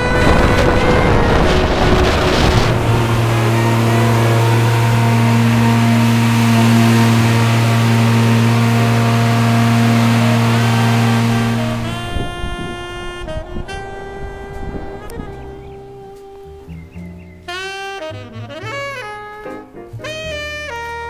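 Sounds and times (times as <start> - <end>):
wind noise: 0.0 - 17.2
engine running steadily: 0.0 - 21.0.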